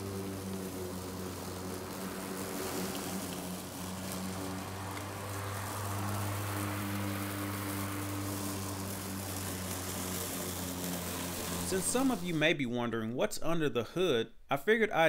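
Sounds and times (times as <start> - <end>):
electric lawn mower running: 0.0 - 12.5.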